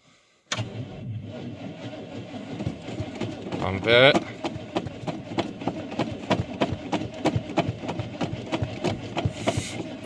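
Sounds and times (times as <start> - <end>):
engine cold start chugging: 0.5 - 10.0.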